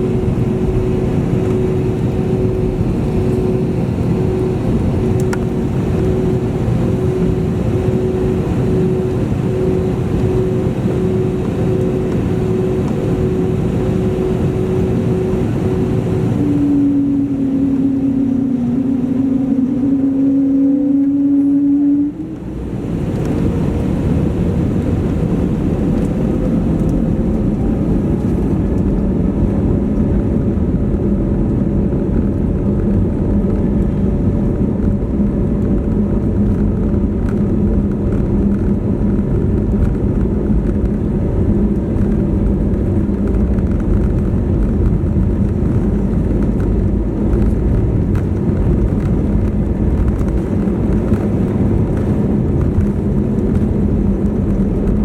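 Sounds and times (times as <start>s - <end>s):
jet engines at takeoff thrust: 0.0s - 55.0s
loud even cabin rumble: 0.0s - 55.0s.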